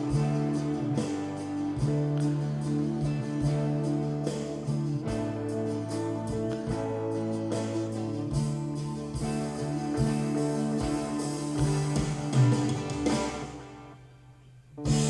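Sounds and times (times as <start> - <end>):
steady drum beat: 0.0 - 13.8, 14.8 - 15.0
sustained bass notes: 0.0 - 13.9
strummed guitar: 0.0 - 15.0.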